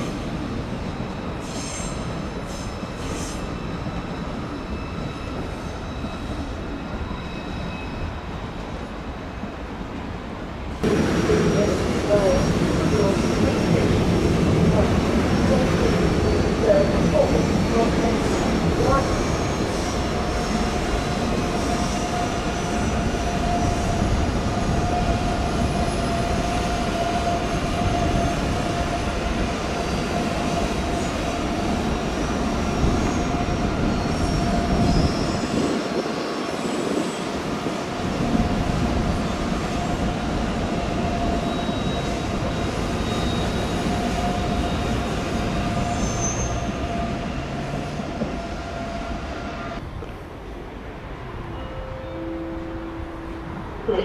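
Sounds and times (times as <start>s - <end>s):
train wheels rumbling on rail: 0.0s - 51.5s
high train whine: 0.0s - 54.0s.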